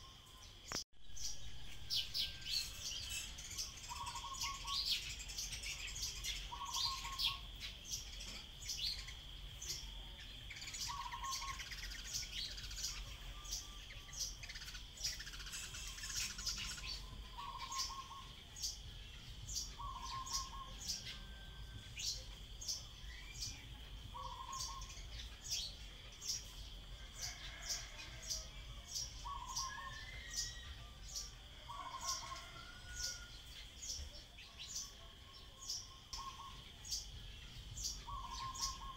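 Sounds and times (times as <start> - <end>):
high insect drone: 0.4 - 38.9.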